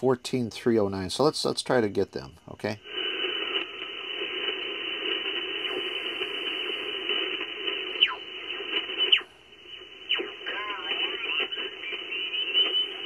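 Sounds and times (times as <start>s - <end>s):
radio band noise hiss: 0.0s - 13.0s.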